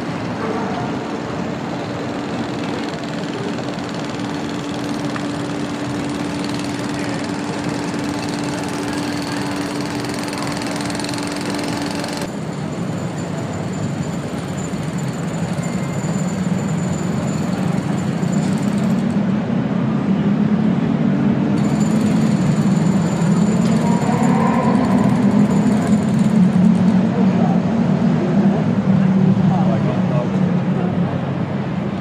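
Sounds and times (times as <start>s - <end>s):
construction machinery din: 0.0s - 32.0s.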